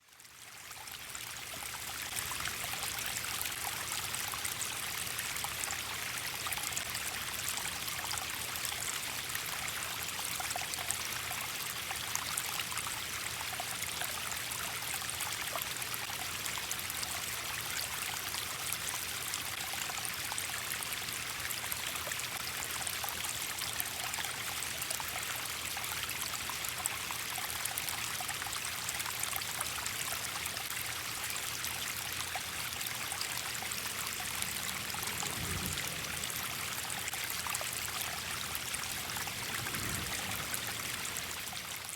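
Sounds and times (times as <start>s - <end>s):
running water: 0.2s - 41.9s.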